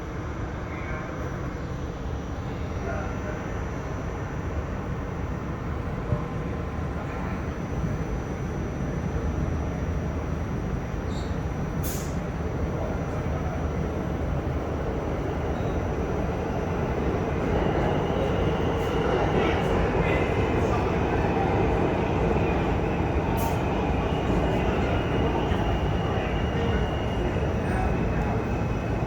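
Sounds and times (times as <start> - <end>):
subway car rumble and hum: 0.0 - 29.0.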